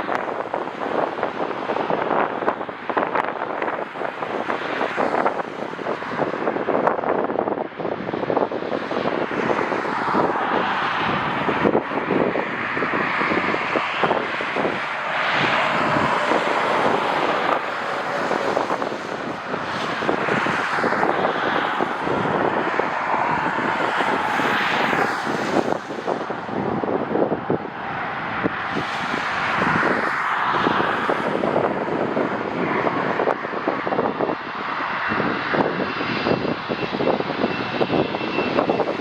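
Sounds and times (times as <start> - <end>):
jet engine noise: 0.0 - 39.0
wind buffeting microphone: 0.0 - 39.0.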